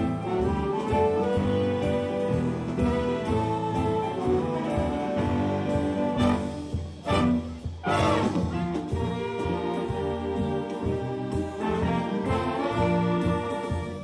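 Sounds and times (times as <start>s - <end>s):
swing orchestra playing jazz: 0.0s - 14.0s.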